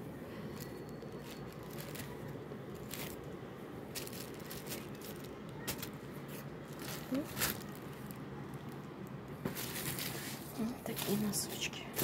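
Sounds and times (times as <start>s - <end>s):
low background noise: 0.0s - 12.0s
plastic sheeting and leaves rustling: 0.4s - 12.0s.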